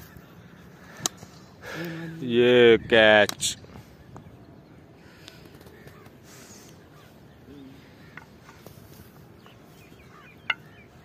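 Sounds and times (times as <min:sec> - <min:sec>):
faint distant birds calling: 0:00.0 - 0:11.0.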